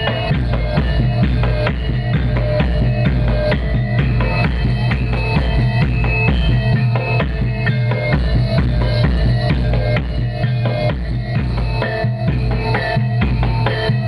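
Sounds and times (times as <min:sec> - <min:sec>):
pounding drums: 0:00.0 - 0:14.0
ringing metallic tones: 0:00.0 - 0:14.0.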